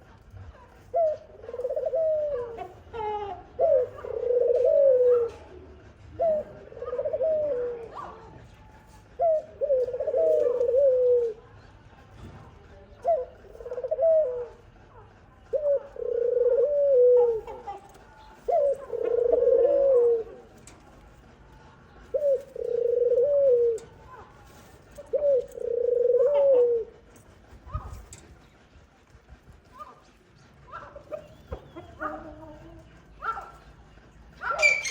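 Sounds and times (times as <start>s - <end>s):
dove cooing: 0.6s - 11.5s, 13.0s - 20.9s, 21.8s - 28.0s, 30.7s - 34.9s.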